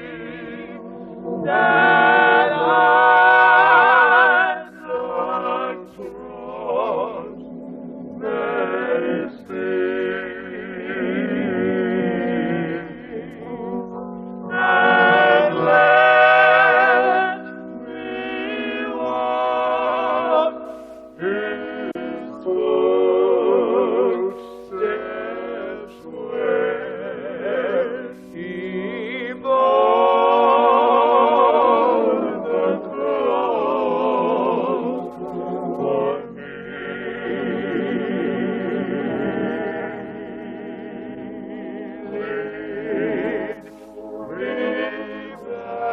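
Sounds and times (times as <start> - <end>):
church choir singing: 0.0 - 45.9.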